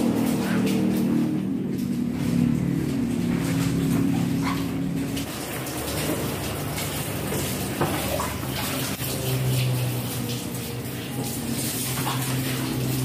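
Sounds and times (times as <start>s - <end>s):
low steady hum: 0.0s - 13.0s
water running into a bucket: 0.0s - 13.0s.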